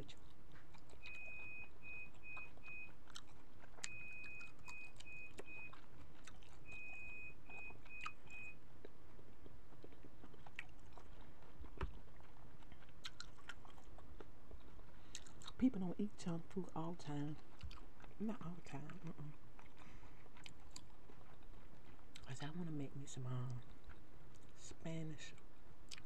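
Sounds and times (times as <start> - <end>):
person chewing: 0.0 - 16.4, 17.1 - 22.6, 23.5 - 24.6, 25.3 - 26.0.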